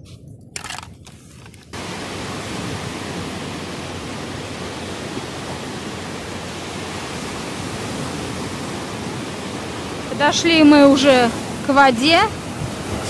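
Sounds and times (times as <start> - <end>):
surf breaking on sandy beach: 1.7 - 13.0.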